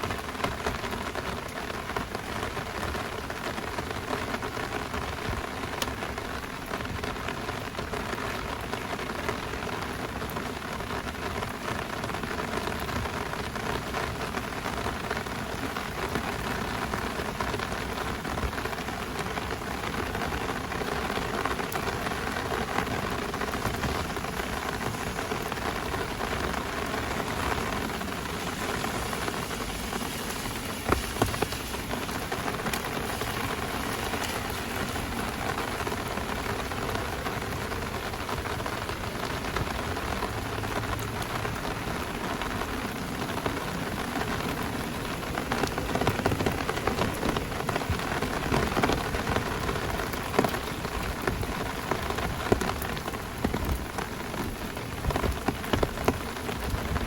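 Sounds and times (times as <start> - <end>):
heavy rain downpour: 0.0 - 57.0.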